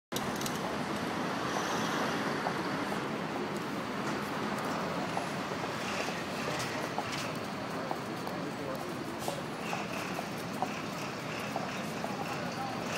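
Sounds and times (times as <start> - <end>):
street traffic and engines: 0.1 - 12.9.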